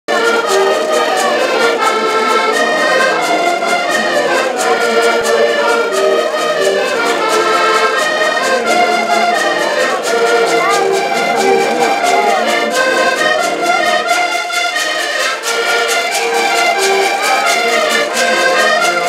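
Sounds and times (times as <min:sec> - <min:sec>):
button accordions playing: 0:00.1 - 0:19.0.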